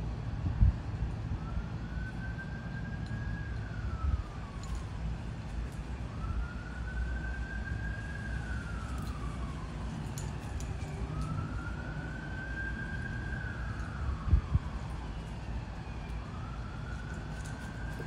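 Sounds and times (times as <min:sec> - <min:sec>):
steady low rumble: 0:00.0 - 0:17.3
distant siren wailing: 0:00.0 - 0:18.0.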